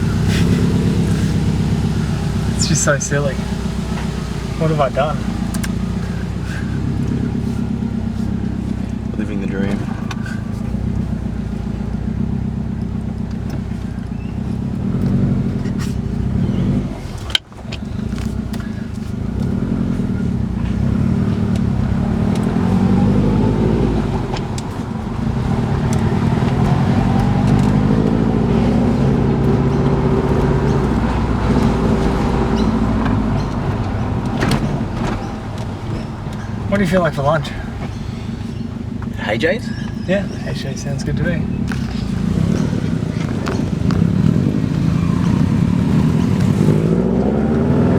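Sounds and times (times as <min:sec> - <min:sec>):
car engine through loud exhaust: 0:00.0 - 0:47.9.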